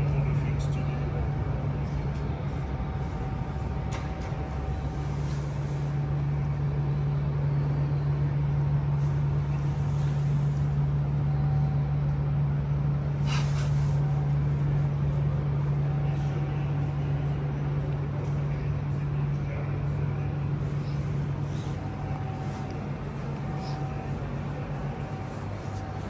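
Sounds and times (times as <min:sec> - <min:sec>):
low mechanical drone: 0:00.0 - 0:26.0
station hall noise: 0:00.0 - 0:26.0.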